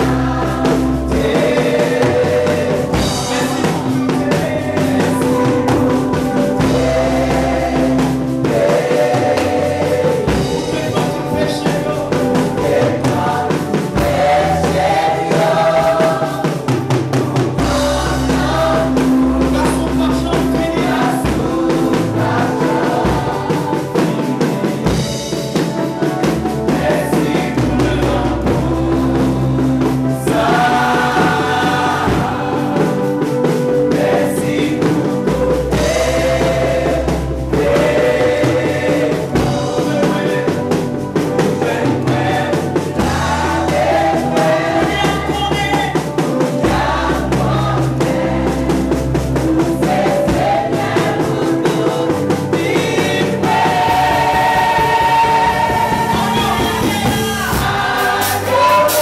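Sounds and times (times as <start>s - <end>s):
band with drums and bass: 0.0s - 59.0s
gospel choir singing: 0.0s - 59.0s.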